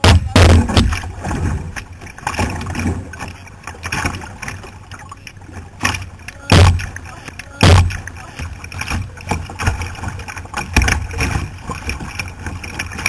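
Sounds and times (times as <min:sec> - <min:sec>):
water splashing around kayak: 0:00.0 - 0:13.0.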